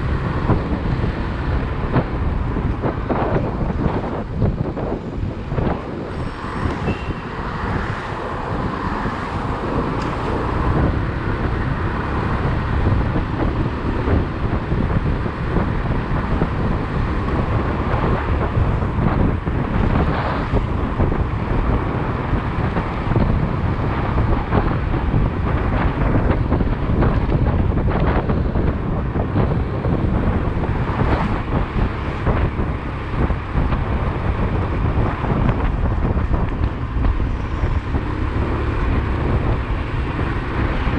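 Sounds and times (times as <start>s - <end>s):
motorcycle running: 0.0s - 40.9s
road traffic: 0.0s - 40.9s
wind noise on microphone: 0.0s - 40.9s.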